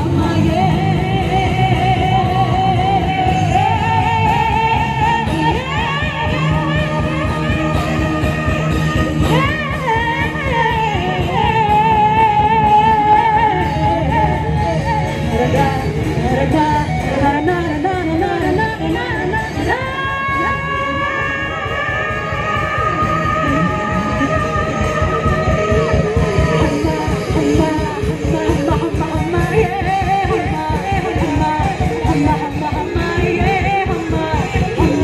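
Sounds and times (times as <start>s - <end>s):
drums: 0.0s - 35.0s
electric guitar: 0.0s - 35.0s
woman singing: 0.0s - 35.0s.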